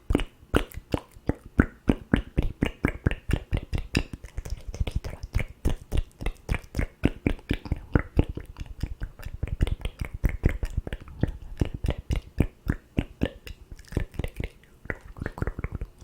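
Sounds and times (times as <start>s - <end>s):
wet mouth clicks and pops: 0.0s - 16.0s.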